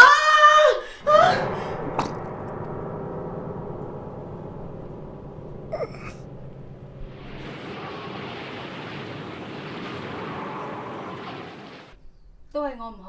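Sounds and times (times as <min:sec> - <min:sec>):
steady rushing noise: 0:01.4 - 0:12.2.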